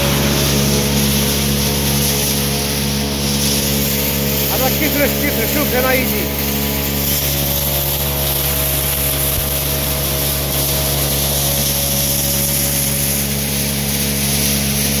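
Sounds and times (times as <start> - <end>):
machinery motor hum with hiss: 0.0 - 15.0.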